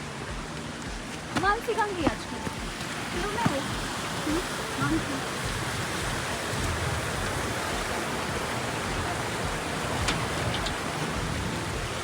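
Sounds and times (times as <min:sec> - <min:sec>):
mountain river rushing: 0:00.0 - 0:12.0.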